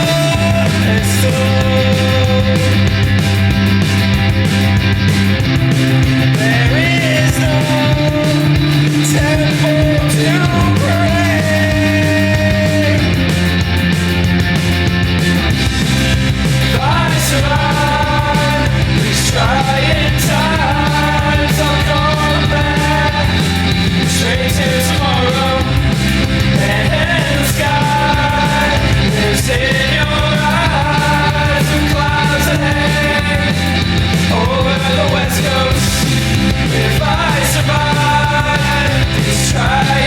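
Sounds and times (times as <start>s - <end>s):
person singing: 0.0s - 2.9s, 6.3s - 13.2s, 16.6s - 40.0s
drums beating: 0.0s - 40.0s
punk rock band playing: 0.0s - 40.0s.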